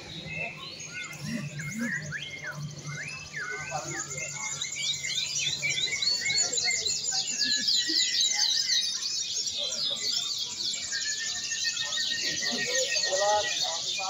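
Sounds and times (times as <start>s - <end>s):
canaries singing: 0.0s - 14.0s.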